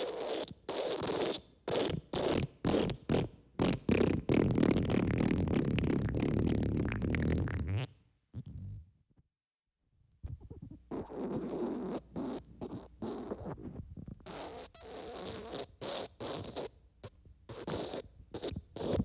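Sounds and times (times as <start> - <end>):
wet fart sputtering: 0.1 - 8.8, 10.3 - 16.8, 17.5 - 19.0.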